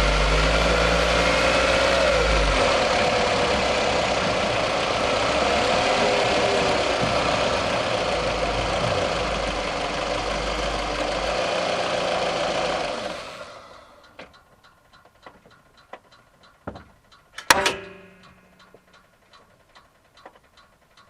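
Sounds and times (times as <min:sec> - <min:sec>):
petrol engine running: 0:00.0 - 0:21.0.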